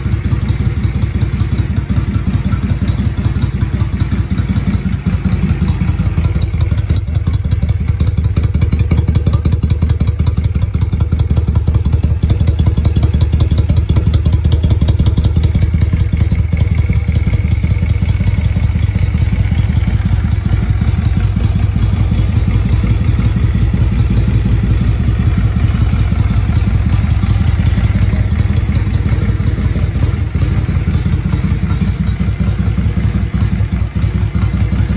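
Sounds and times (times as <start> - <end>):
motorcycle exhaust pulsing: 0.0 - 34.9.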